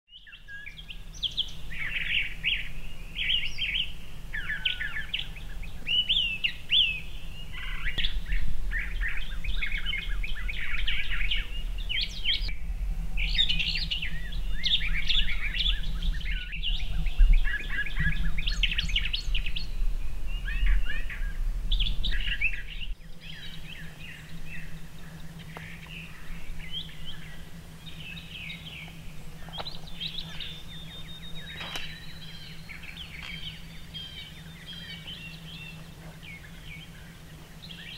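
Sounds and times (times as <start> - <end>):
songbirds chirping: 0.1 - 37.9
low steady rumble: 0.5 - 37.9.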